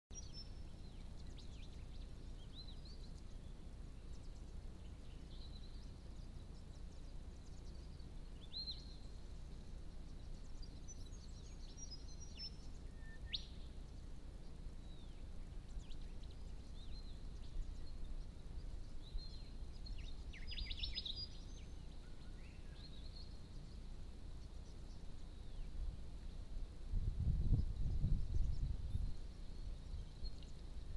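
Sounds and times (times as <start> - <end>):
low background noise: 0.1 - 30.9
small birds chirping: 0.1 - 30.9.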